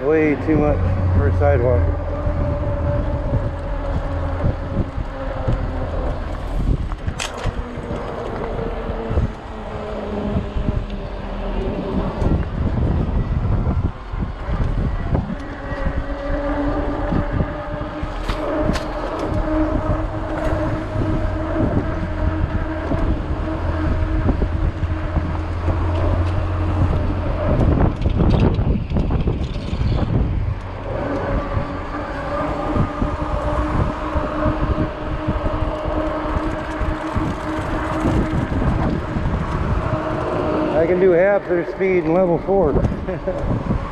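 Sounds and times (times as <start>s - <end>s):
electric motor whining: 0.0s - 43.9s
tyres rumbling on pavement: 0.0s - 43.9s
wind noise on microphone: 0.0s - 43.9s.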